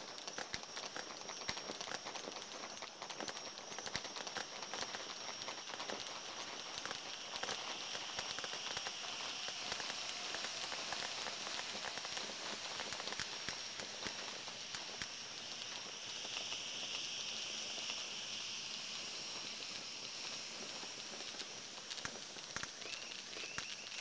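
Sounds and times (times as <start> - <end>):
distant fireworks popping: 0.0 - 24.0
high-pitched whine: 0.0 - 24.0.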